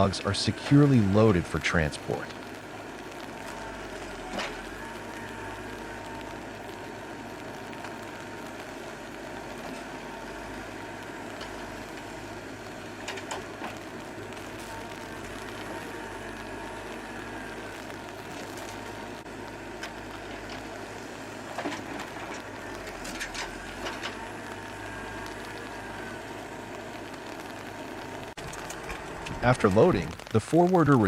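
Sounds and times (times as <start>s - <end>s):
forwarder engine running: 0.0s - 31.0s.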